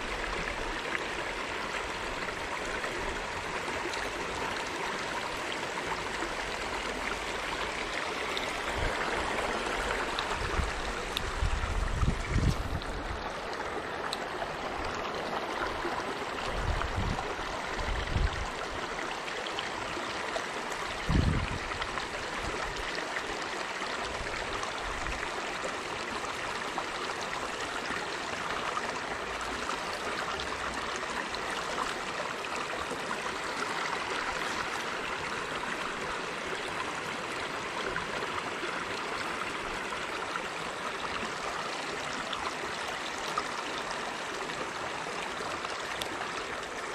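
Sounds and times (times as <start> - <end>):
river water flowing over stones: 0.0 - 46.9.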